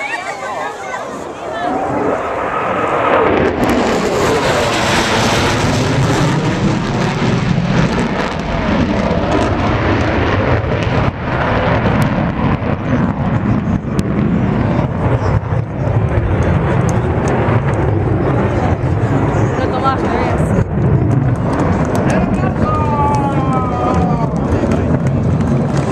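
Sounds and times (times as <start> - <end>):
jet bomber flying over: 0.0 - 25.9.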